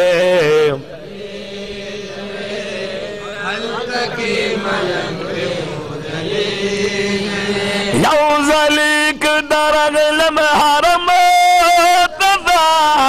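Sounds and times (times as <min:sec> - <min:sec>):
men's vocal drone: 0:00.0 - 0:13.0.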